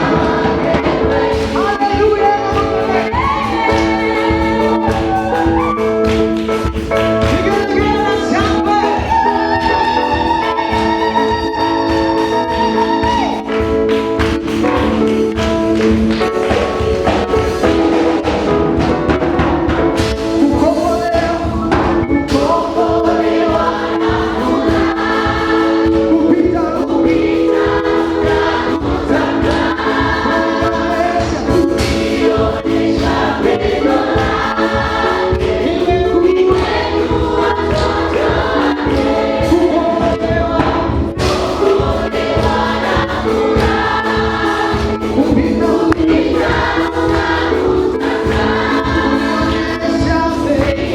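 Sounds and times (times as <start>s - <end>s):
band with driving beat: 0.0s - 50.9s
choir singing gospel: 0.0s - 50.9s.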